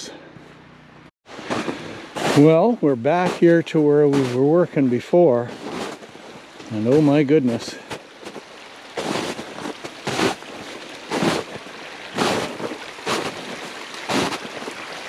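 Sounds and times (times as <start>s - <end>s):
footsteps walking: 1.3s - 4.7s, 5.3s - 15.0s
floodwater rushing: 1.3s - 15.0s.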